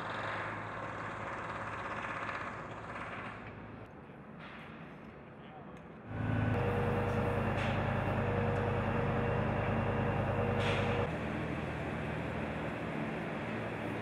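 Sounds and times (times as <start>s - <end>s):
heavy machine engine running: 0.0s - 3.8s, 6.1s - 14.0s.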